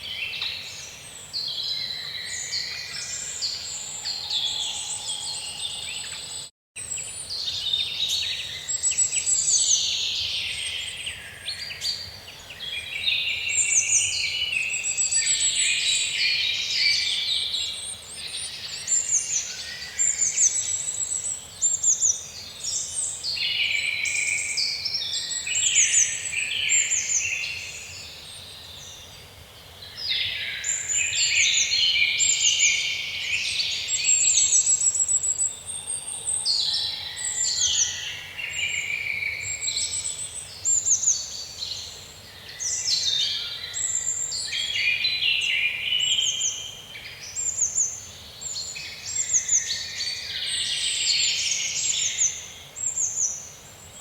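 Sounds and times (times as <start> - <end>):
small birds chirping and singing: 0.0 - 54.0.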